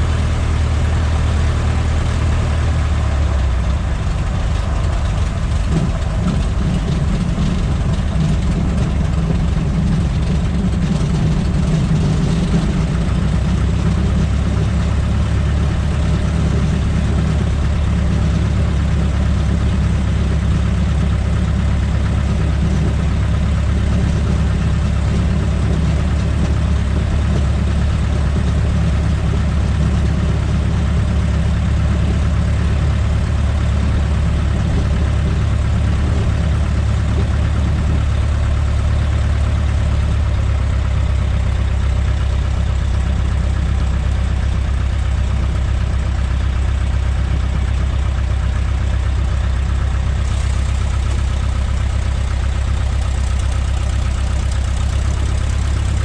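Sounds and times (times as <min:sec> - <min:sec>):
airplane engine running: 0:00.0 - 0:56.0.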